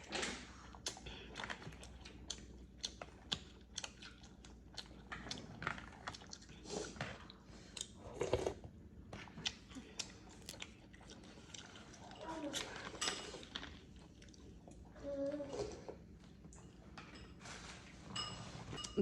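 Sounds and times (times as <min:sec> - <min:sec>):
person chewing food: 0:00.2 - 0:17.2.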